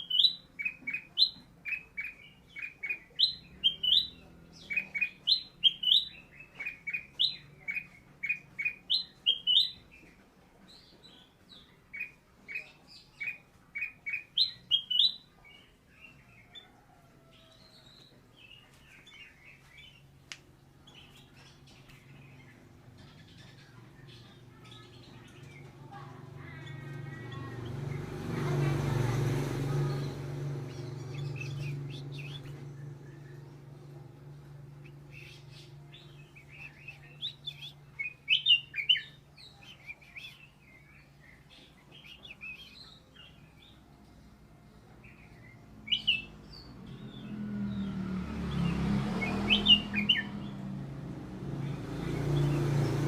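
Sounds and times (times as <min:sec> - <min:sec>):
bird chirping softly: 0:00.0 - 0:53.0.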